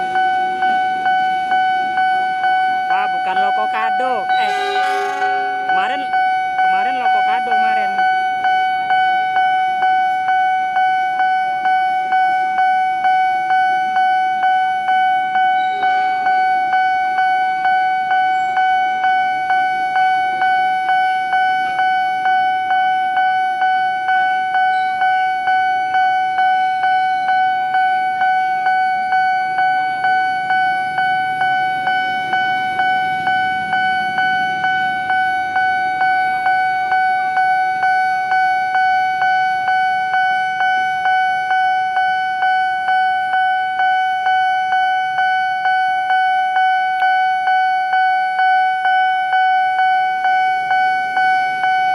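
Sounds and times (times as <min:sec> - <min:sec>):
level crossing warning bell ringing: 0:00.0 - 0:51.9.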